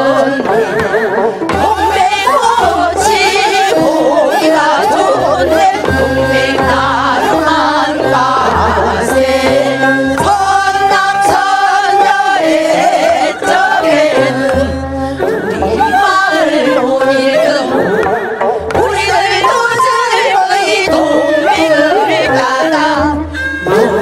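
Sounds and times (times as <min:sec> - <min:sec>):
instrumental accompaniment with bass: 0:00.0 - 0:24.0
women singing folk song: 0:00.0 - 0:24.0.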